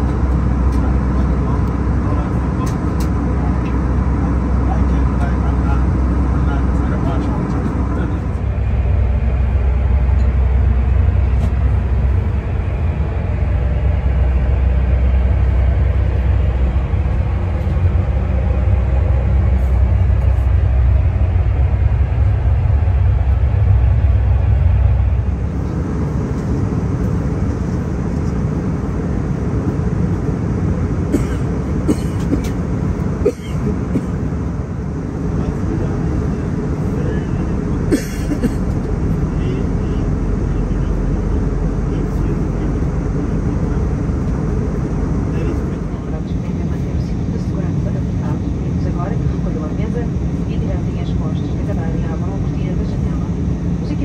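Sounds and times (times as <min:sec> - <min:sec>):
airplane engine rumble in cabin: 0:00.0 - 0:54.0.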